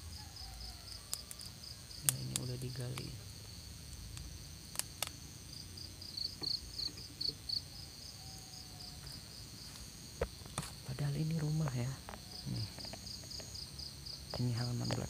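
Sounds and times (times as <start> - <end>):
insects calling high-pitched: 0.0 - 15.0.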